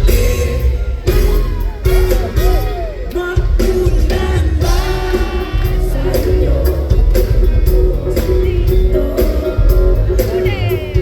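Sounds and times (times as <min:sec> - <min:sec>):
person singing: 0:00.0 - 0:11.0
pop band playing live: 0:00.0 - 0:11.0.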